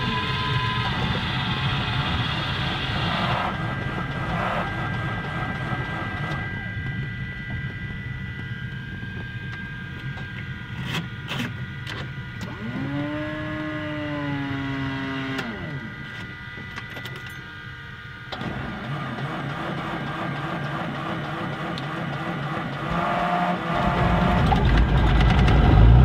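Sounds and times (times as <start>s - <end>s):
pitched whine: 0.0s - 26.0s
propeller plane engine running: 0.0s - 26.0s.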